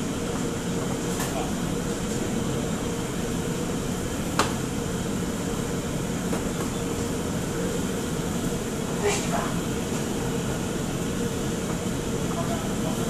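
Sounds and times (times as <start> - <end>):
exhaust hood fan drone: 0.0 - 13.0
steady hum: 0.0 - 13.0.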